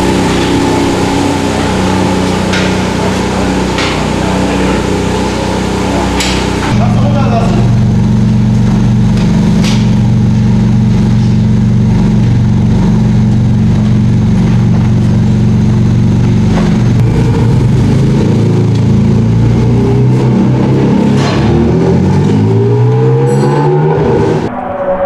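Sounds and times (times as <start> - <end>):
car engine idling through loud exhaust: 0.0 - 24.5.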